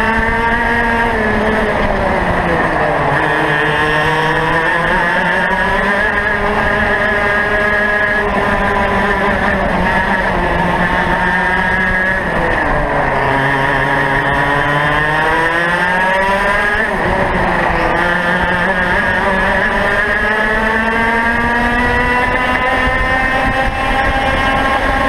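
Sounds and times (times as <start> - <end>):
kart engine at high revs: 0.0 - 25.0.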